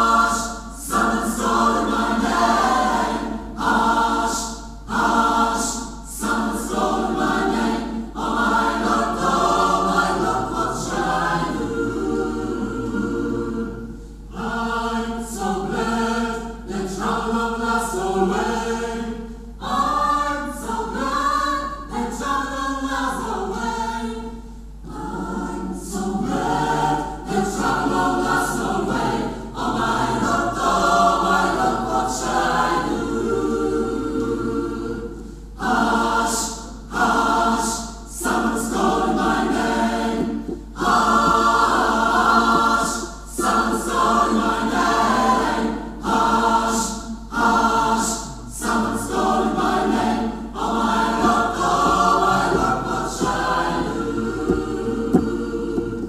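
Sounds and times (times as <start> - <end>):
mixed choir singing: 0.0 - 56.0.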